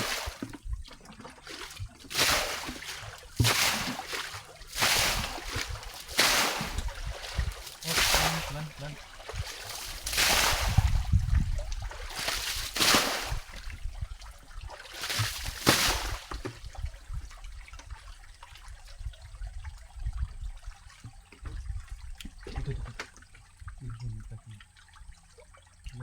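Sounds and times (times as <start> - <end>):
muddy water splashing: 0.0 - 26.0
water trickling: 0.0 - 26.0.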